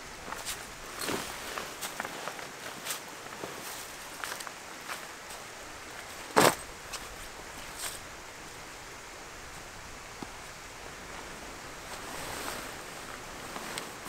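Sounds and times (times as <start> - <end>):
fabric and leaves rustling: 0.0 - 14.0.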